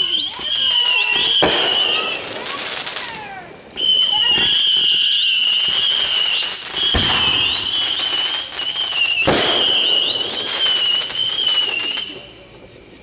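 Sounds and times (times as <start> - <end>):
firework bangs: 0.0 - 12.3
firework crackling: 0.0 - 12.5
firework whistle: 0.0 - 12.5.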